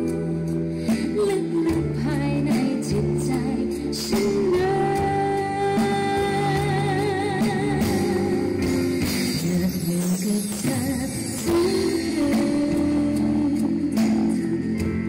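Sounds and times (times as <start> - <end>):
electric guitar: 0.0 - 15.0
woman singing: 0.0 - 15.0.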